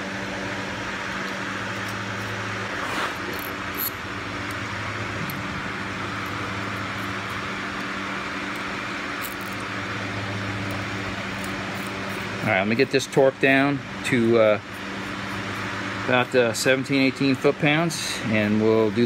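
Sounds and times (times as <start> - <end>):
electric fan humming: 0.0 - 19.0.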